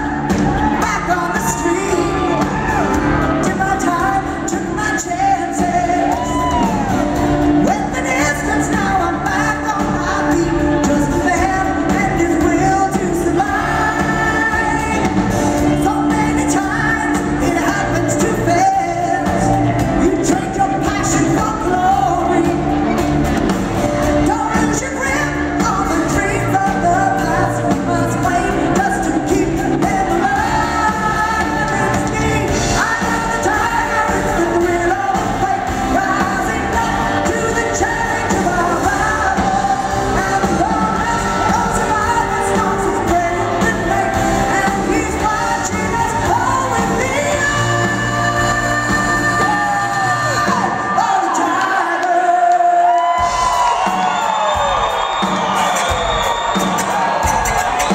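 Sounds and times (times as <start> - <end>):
electric guitar: 0.0 - 57.9
person singing: 0.0 - 57.9
rock band playing loudly: 0.0 - 57.9.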